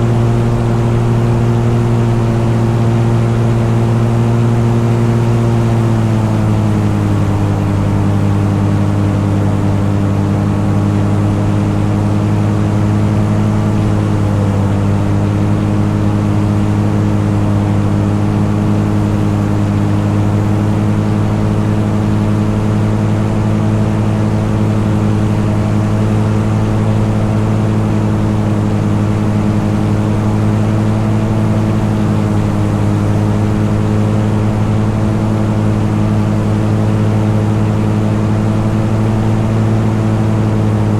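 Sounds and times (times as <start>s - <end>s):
light aircraft engine drone: 0.0s - 40.9s.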